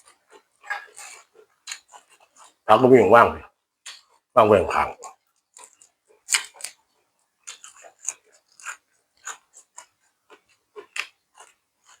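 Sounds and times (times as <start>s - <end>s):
person chewing crisp vegetables: 0.0s - 2.7s, 3.8s - 12.0s.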